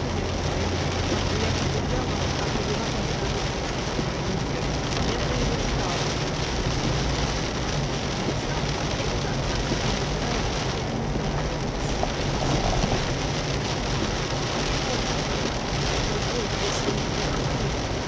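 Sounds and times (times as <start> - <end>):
rain on car roof: 0.0 - 18.0.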